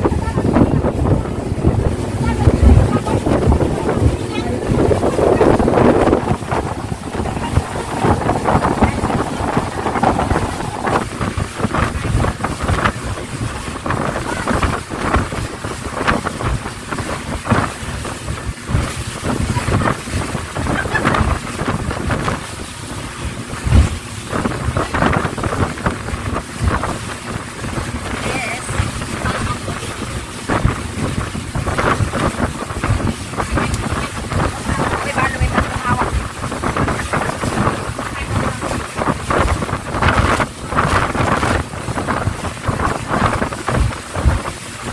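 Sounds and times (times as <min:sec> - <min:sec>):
boat motor drone: 0:00.0 - 0:44.9
hull slapping waves: 0:00.0 - 0:44.9
wind buffeting microphone: 0:00.0 - 0:44.9.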